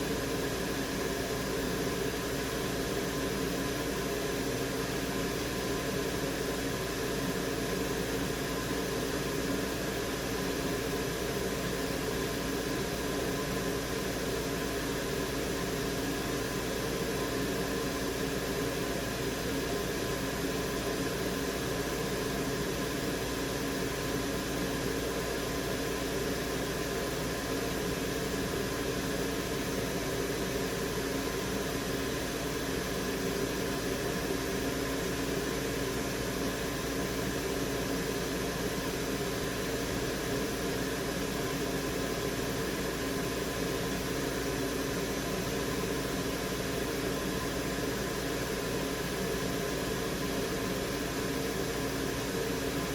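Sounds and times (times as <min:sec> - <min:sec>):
fan whir and hiss: 0:00.0 - 0:52.9.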